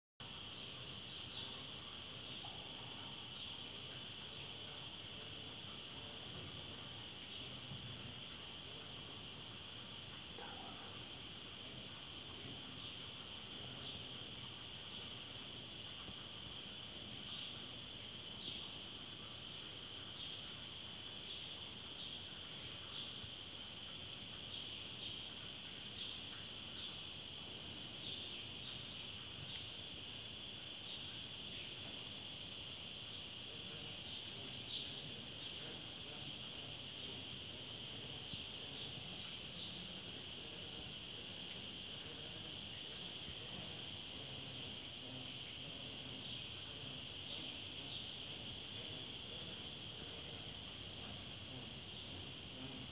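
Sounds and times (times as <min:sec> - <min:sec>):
high-pitched insect chorus: 0:00.2 - 0:52.9.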